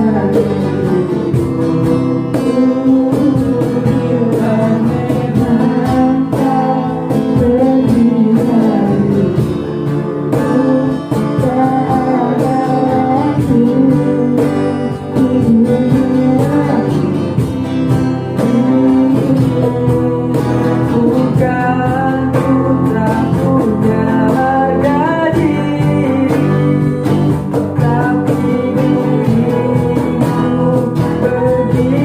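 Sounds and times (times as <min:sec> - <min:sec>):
acoustic guitar strumming: 0:00.0 - 0:32.0
person singing: 0:00.0 - 0:32.0.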